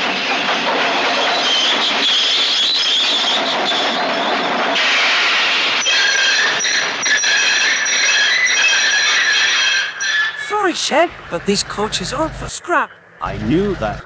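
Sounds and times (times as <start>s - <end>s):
train rumbling on rails: 0.0s - 14.0s
wheels squealing on track: 1.2s - 14.0s.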